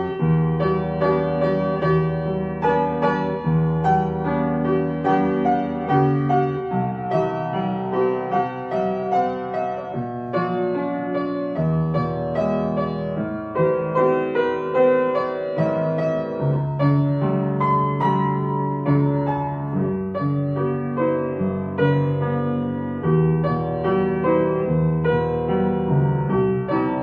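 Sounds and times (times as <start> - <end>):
slow gentle piano music: 0.0 - 27.0.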